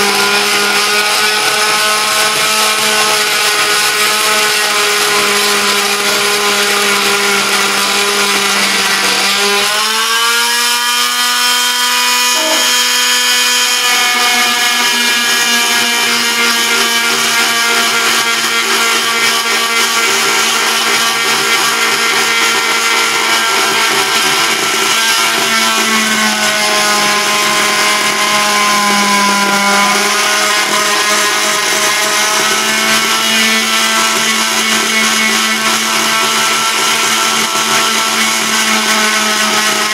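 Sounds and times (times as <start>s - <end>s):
oscillating multi-tool cutting wood: 0.0s - 39.9s.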